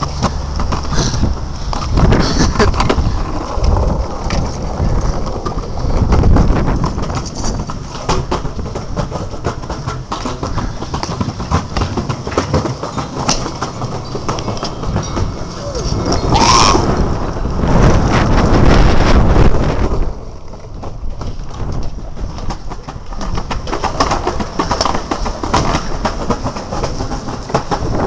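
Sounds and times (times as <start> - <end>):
longboard clicks and clacks: 0.0 - 28.0
longboard wheels rumbling on concrete: 0.0 - 28.0.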